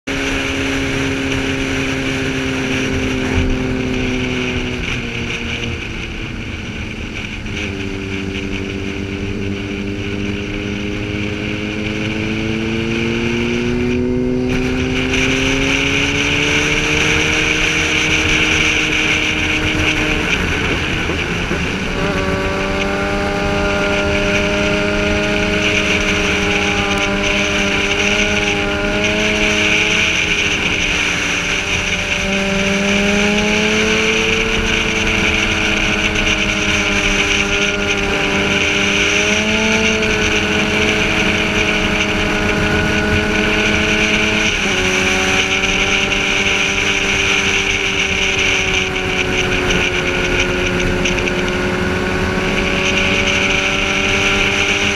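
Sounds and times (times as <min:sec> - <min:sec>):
motorcycle engine revving through gears: 0:00.0 - 0:54.9
wind noise: 0:00.1 - 0:54.9.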